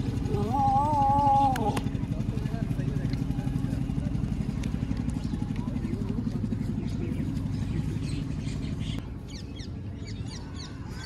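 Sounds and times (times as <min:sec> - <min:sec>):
engine throbbing: 0:00.0 - 0:09.2
birds chirping: 0:00.0 - 0:11.0.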